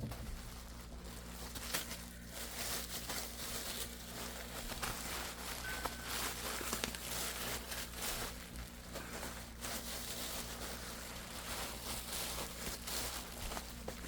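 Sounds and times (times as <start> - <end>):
bubble wrap crinkling: 0.0 - 14.0
low steady hum: 0.0 - 14.0.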